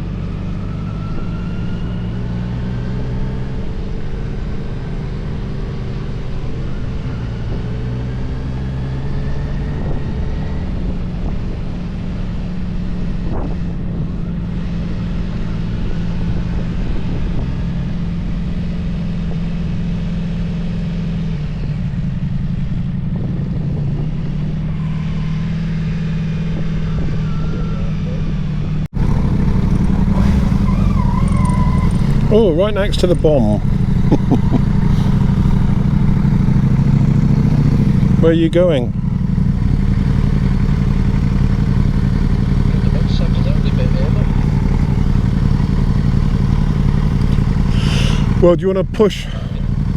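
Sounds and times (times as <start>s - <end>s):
motorcycle engine running: 0.0s - 49.9s
road and wind noise: 0.0s - 49.9s.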